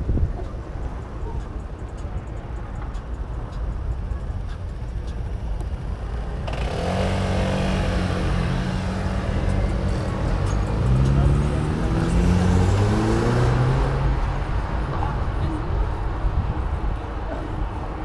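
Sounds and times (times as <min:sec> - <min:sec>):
bicycle road rumble: 0:00.0 - 0:18.0
wind: 0:00.0 - 0:18.0.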